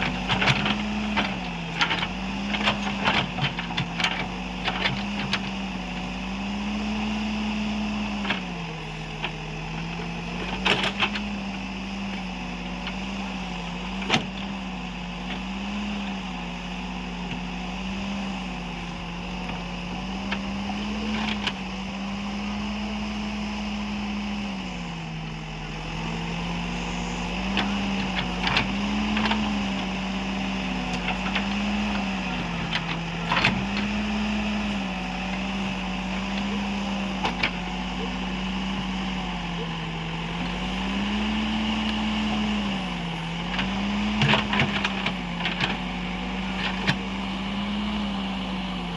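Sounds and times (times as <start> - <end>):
backhoe diesel engine running: 0.0 - 48.9.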